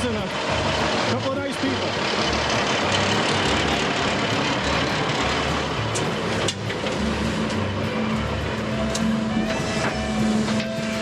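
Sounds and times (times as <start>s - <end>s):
diesel earthmoving equipment running: 0.0s - 11.0s.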